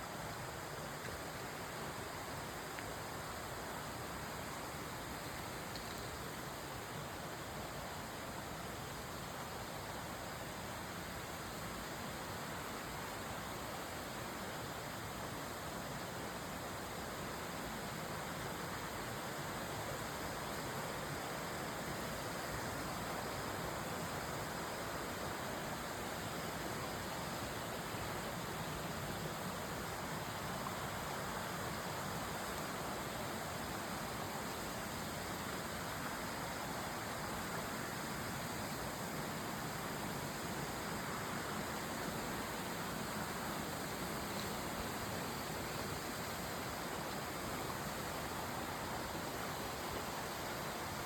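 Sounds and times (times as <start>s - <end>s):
stream flowing: 0.0s - 51.0s.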